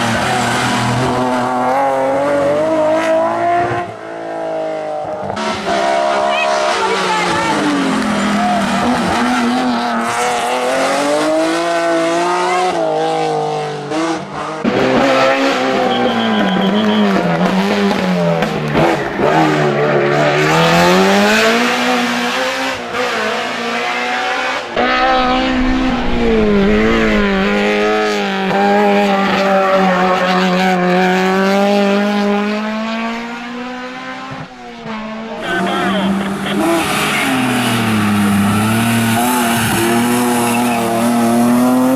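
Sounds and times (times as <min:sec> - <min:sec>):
car engine at full throttle: 0:00.0 - 0:41.9.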